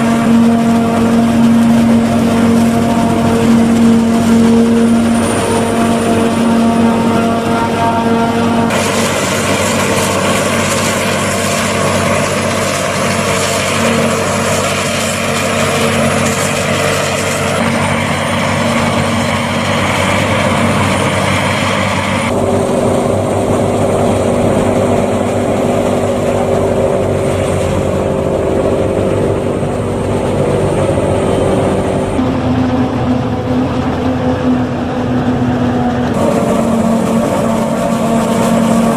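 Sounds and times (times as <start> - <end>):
harvester machinery drone: 0.0 - 38.9
tractor engine running: 0.0 - 38.9.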